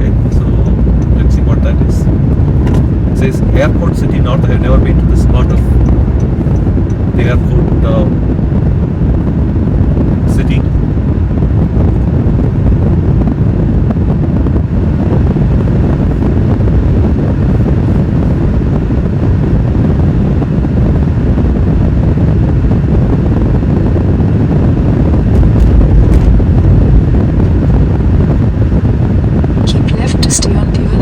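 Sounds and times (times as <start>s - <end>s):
road and wind noise: 0.0s - 31.0s.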